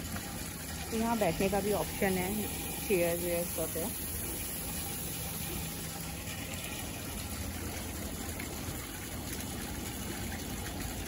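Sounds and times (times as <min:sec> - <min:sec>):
water splashing into pond: 0:00.0 - 0:11.0.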